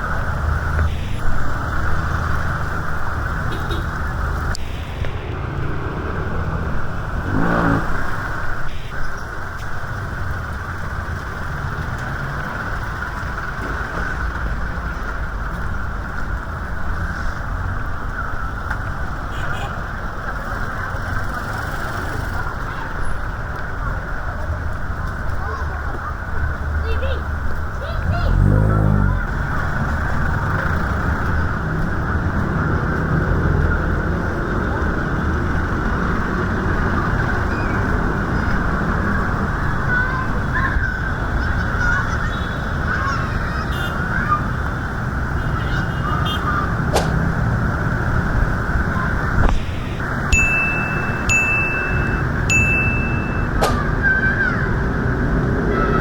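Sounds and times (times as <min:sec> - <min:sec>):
rainy city street rushing noise: 0:00.0 - 0:56.0
vehicle engine rumbling: 0:00.0 - 0:56.0.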